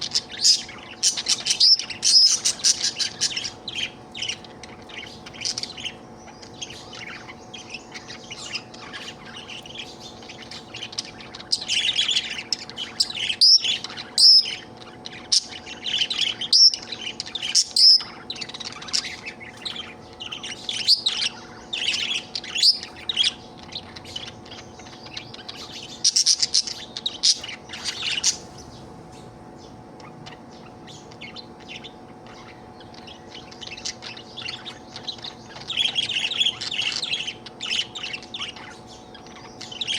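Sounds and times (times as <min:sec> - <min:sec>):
budgerigar chirping: 0:00.0 - 0:28.8, 0:29.6 - 0:39.9
faint steady hum: 0:00.0 - 0:39.9.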